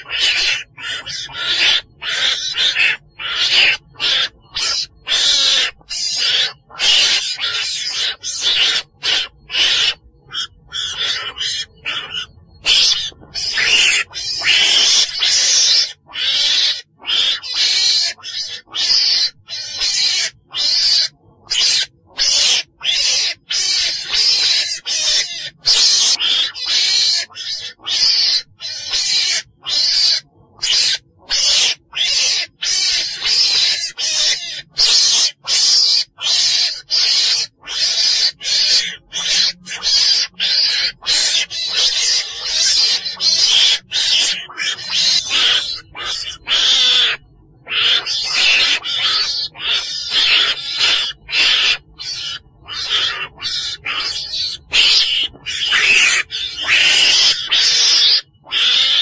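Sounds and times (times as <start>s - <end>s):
harsh hiss-like weasel calls: 0.0s - 59.0s.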